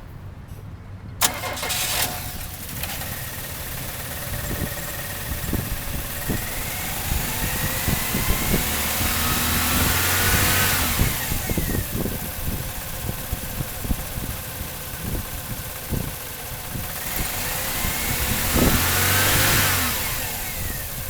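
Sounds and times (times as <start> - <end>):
car engine misfiring: 1.2 - 21.0.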